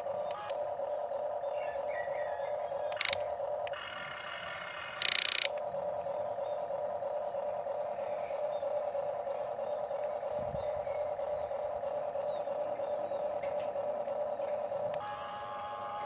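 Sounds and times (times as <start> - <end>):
toy excavator motors whining: 0.0 - 16.0.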